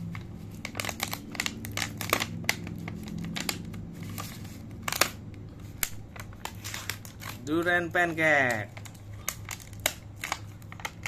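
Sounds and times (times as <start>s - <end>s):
plastic container crinkling and snapping: 0.6s - 7.6s, 8.2s - 11.0s.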